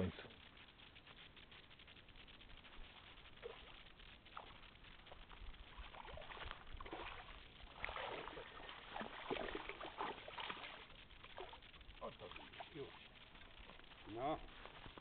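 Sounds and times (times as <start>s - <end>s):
fish splashing at water surface: 2.4s - 15.0s.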